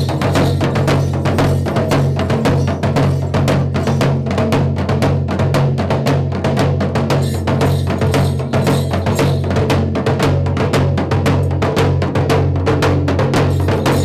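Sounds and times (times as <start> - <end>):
fast folk drumming: 0.0 - 14.0.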